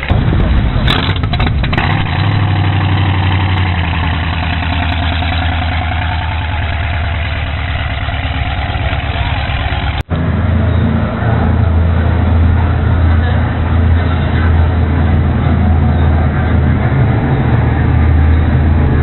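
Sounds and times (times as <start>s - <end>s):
boat engines idling: 0.0s - 19.0s.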